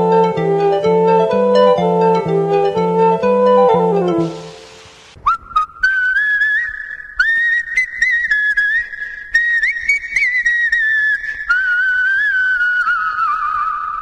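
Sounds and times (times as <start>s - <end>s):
whistled melody: 0.0s - 14.0s.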